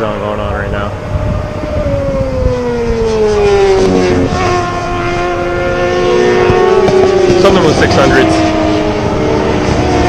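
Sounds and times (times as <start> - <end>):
race motorcycles at high revs: 0.0 - 10.0
wind rumble on microphone: 0.0 - 10.0.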